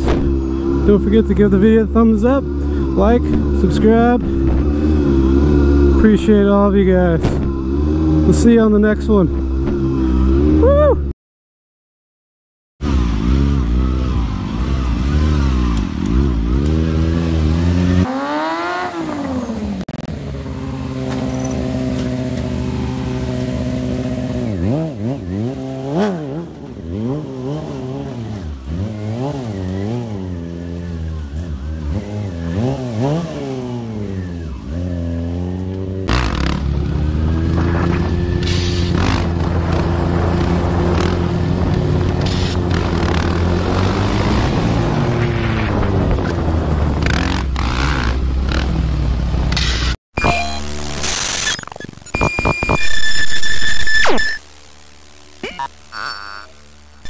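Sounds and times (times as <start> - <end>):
motorcycle engine revving: 0.0 - 10.9, 12.8 - 51.3.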